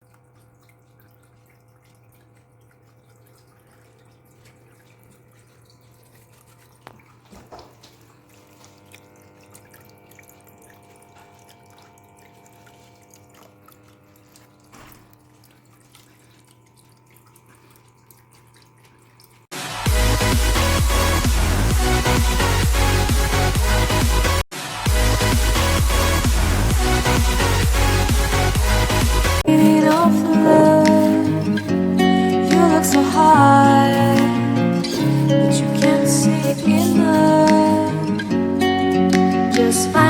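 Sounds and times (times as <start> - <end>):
water dripping and trickling: 0.0 - 24.1, 25.2 - 40.0.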